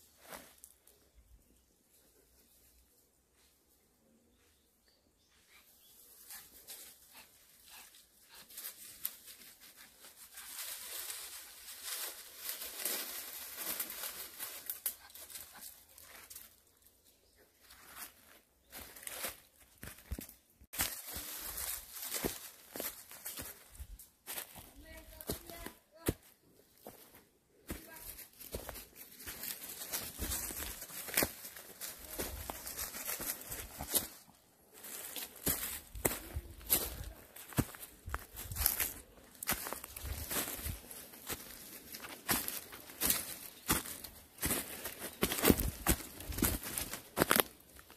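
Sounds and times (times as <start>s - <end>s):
footsteps crunching through dry leaves: 6.1s - 16.6s, 17.5s - 47.9s.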